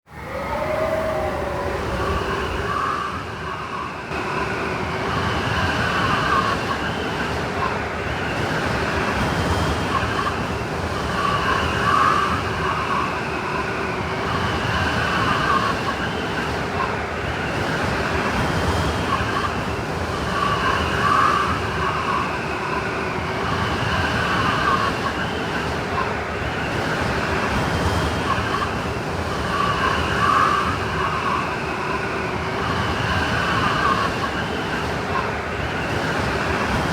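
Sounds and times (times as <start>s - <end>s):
howling snowstorm wind: 0.0s - 36.9s.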